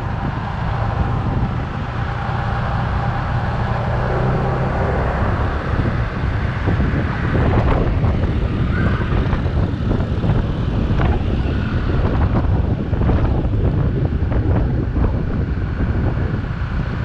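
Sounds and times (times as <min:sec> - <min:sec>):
motorcycle engine drone: 0:00.0 - 0:17.0
wind on microphone: 0:00.0 - 0:17.0.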